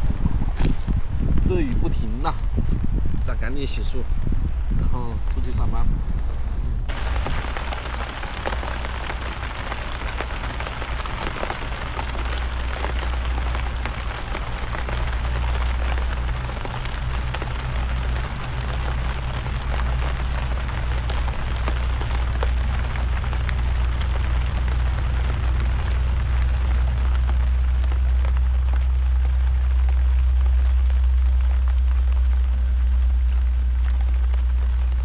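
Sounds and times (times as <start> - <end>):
steady low rumble: 0.0 - 35.0
heavy rain pattering: 6.9 - 35.0.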